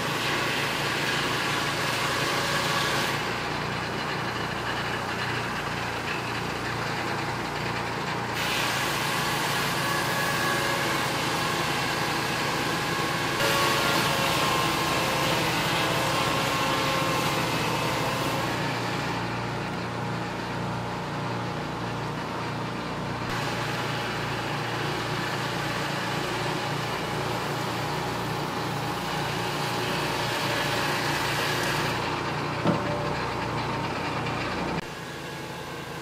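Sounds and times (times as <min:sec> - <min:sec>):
circular saw cutting wood: 0:00.0 - 0:21.6, 0:23.2 - 0:36.0
sawmill engine humming: 0:00.0 - 0:36.0.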